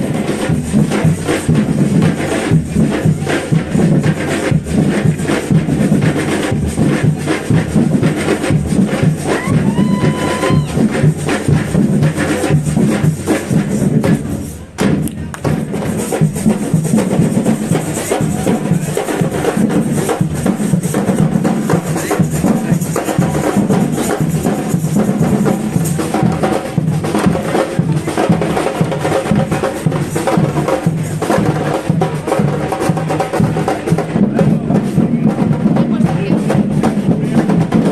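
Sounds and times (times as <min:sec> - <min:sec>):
live music with driving percussion: 0:00.0 - 0:37.9.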